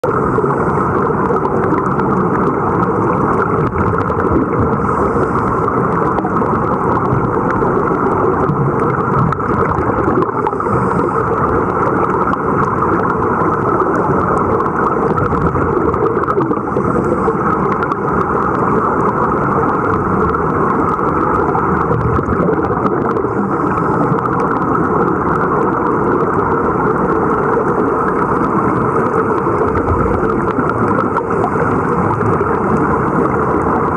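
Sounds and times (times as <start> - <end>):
muffled underwater rumble: 0.0 - 33.9.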